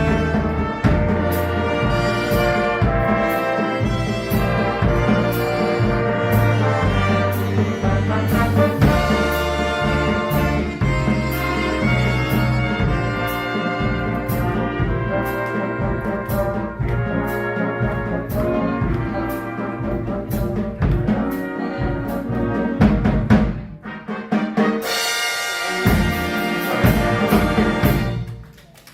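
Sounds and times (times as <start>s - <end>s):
big band playing: 0.0s - 28.9s.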